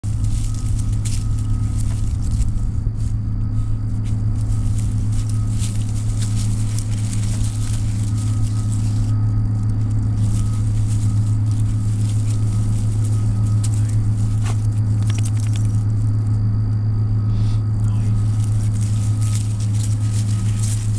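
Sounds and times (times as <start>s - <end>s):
motor humming: 0.0s - 20.9s.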